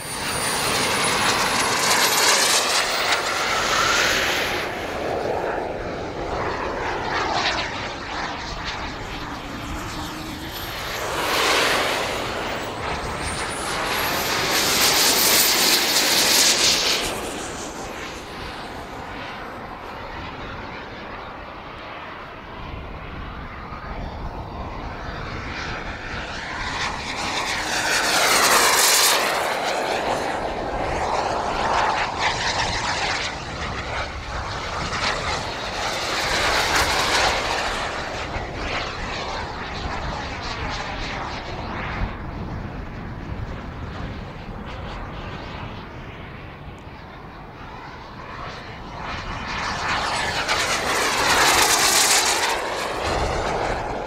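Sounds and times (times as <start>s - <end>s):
faint high whine: 0.0s - 54.0s
model jet turbine rushing: 0.0s - 54.0s.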